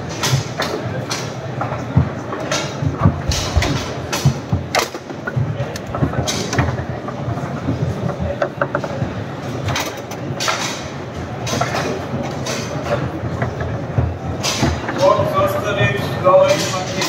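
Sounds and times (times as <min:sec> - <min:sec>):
foosball clacks and knocks: 0:00.0 - 0:15.1
murmur of voices: 0:00.0 - 0:17.0.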